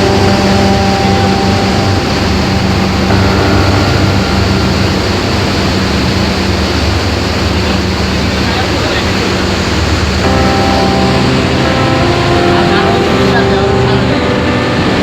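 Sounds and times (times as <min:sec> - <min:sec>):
boat engine humming: 0:00.0 - 0:15.0
water rushing: 0:00.0 - 0:15.0.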